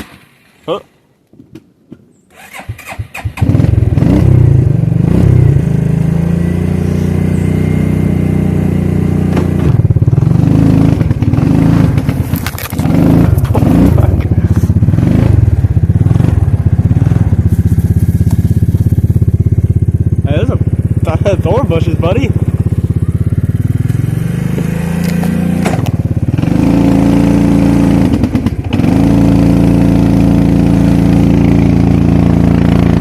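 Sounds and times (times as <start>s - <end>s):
quad bike engine starting and revving: 0.0s - 0.7s, 2.3s - 33.0s.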